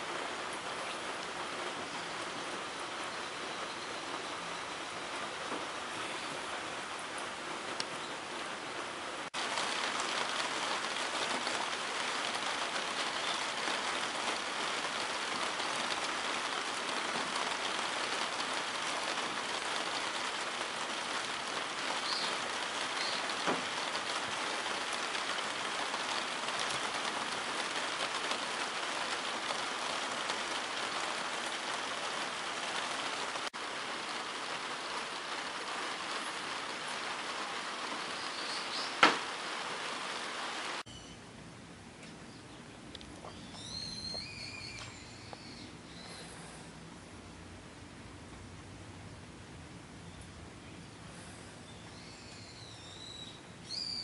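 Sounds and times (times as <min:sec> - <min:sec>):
light rain falling: 0:00.0 - 0:54.0.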